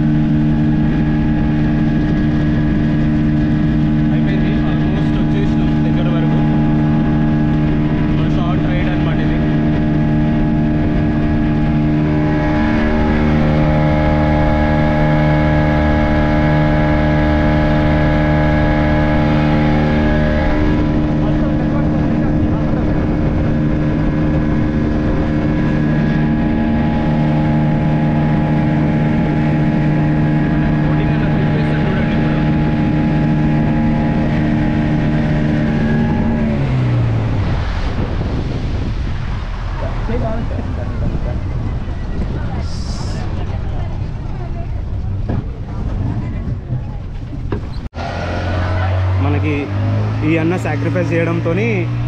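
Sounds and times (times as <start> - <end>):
speedboat engine running: 0.0 - 52.0
water noise: 0.0 - 52.0
wind: 0.0 - 52.0.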